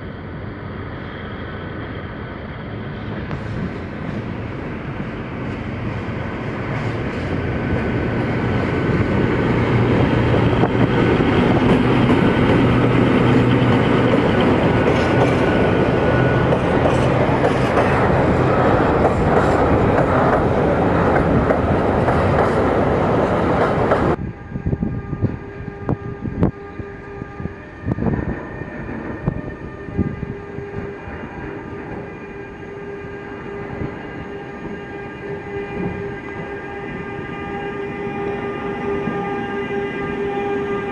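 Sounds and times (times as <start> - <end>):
train passing: 0.0 - 40.9.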